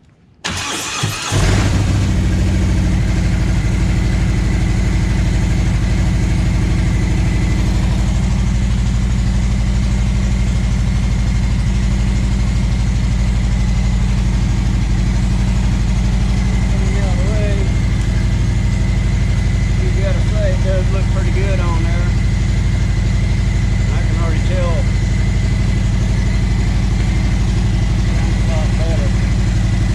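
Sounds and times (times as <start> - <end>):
motorcycle engine idling: 1.8 - 29.9.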